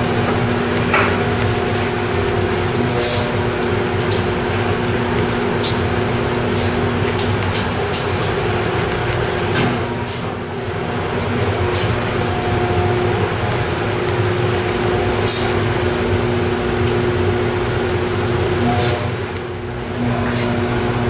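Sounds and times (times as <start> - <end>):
ventilation system droning hum: 0.0 - 21.0.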